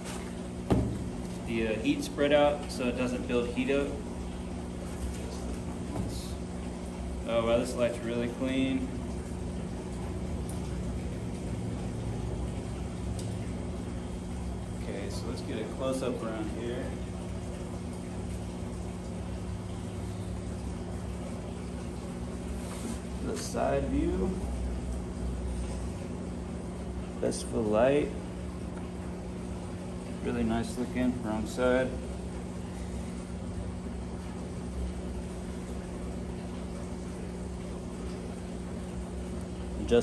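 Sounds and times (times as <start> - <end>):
low mechanical room hum: 0.0 - 40.0.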